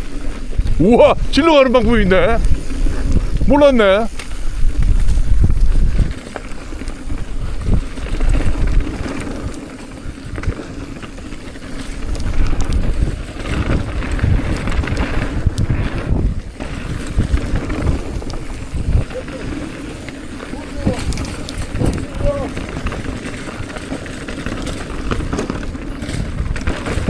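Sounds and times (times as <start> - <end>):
tyres rumbling on dirt: 0.0 - 27.0
wind buffeting microphone: 0.0 - 27.0
bike knocks and rattles: 1.8 - 27.0.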